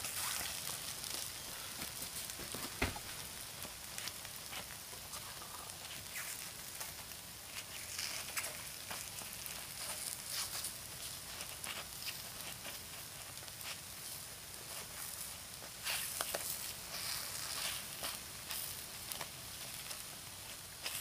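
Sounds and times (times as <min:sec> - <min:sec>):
batter sizzling on hot plate: 0:00.0 - 0:21.0.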